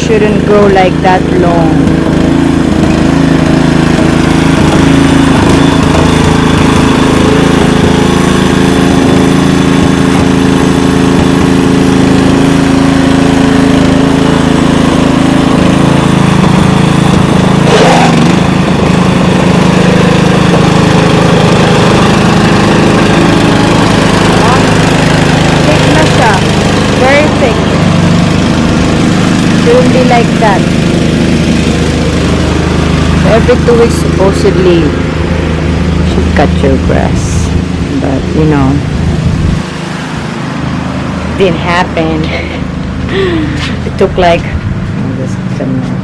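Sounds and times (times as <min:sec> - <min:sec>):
lawn mower engine running: 0:00.0 - 0:46.0.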